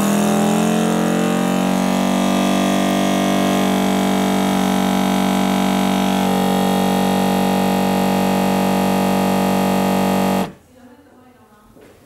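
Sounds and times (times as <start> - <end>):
vacuum sealer pump humming: 0.0 - 10.6.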